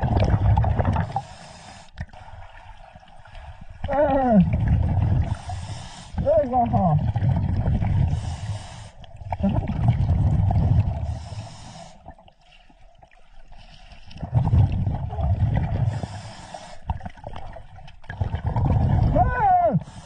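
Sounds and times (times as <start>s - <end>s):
exhaled bubbles rumbling underwater: 0.0s - 20.0s.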